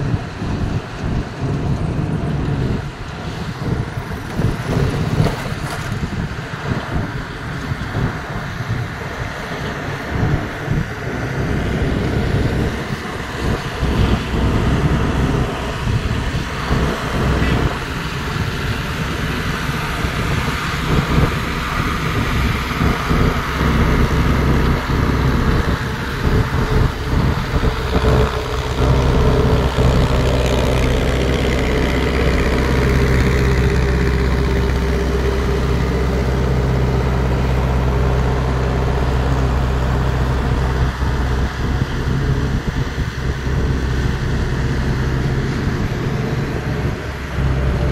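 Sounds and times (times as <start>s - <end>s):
heavy machinery engine running: 0.0s - 47.9s.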